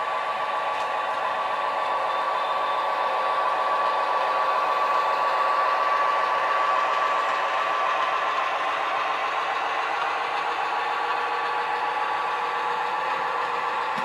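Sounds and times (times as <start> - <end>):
wheels rolling on rails: 0.0 - 14.0.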